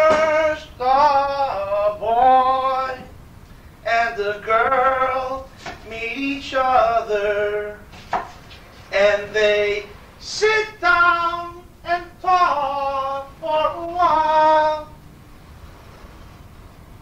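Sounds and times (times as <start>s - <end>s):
voices singing: 0.0s - 3.2s, 3.8s - 15.0s.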